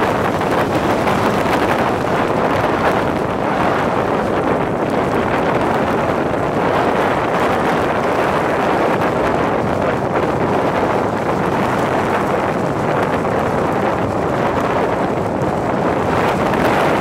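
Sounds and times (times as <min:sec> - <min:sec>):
heavy surf breaking: 0:00.0 - 0:17.0
strong wind buffeting microphone: 0:00.0 - 0:17.0.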